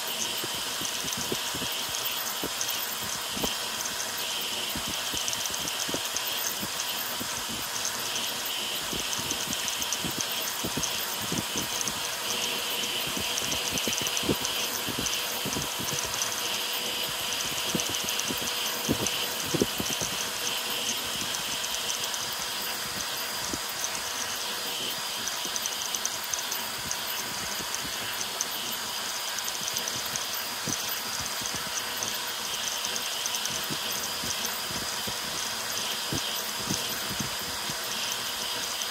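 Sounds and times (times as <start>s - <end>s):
blower air hiss: 0.0s - 38.9s
printer stepper motors whirring: 0.0s - 38.9s
sharp ticks: 0.1s - 38.9s.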